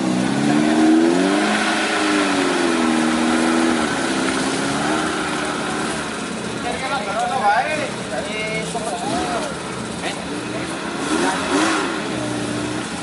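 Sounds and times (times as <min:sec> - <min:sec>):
jeep engine revving: 0:00.0 - 0:13.0.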